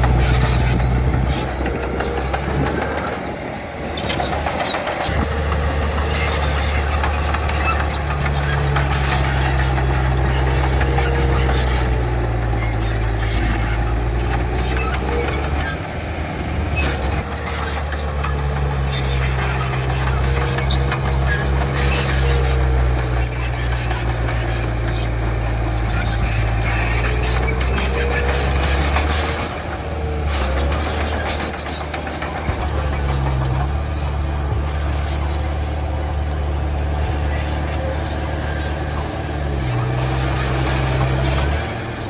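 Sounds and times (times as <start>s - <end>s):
bulldozer diesel engine: 0.0s - 42.0s.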